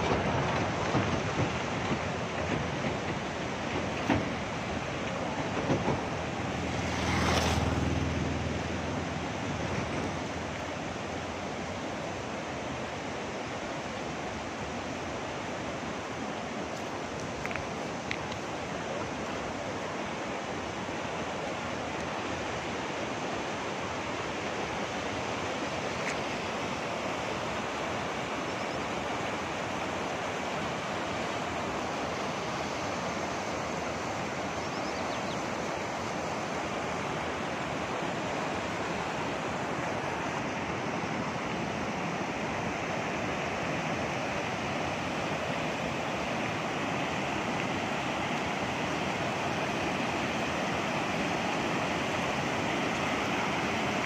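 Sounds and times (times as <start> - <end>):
water rushing down a channel: 0.0 - 34.6, 35.4 - 54.0.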